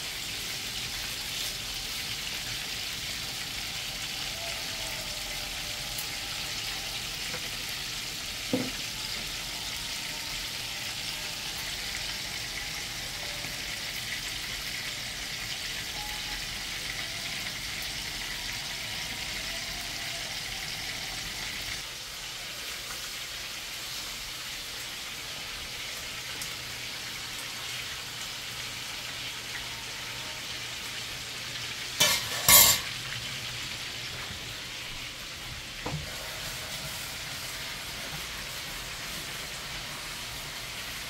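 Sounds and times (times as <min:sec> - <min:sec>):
chicken sizzling in frying pan: 0:00.0 - 0:41.0.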